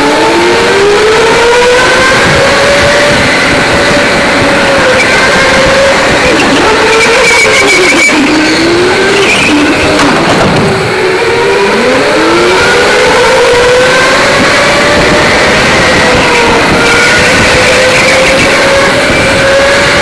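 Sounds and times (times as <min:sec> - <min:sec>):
electric go-kart motors whining: 0:00.0 - 0:20.0
tyre and wind noise: 0:00.0 - 0:20.0.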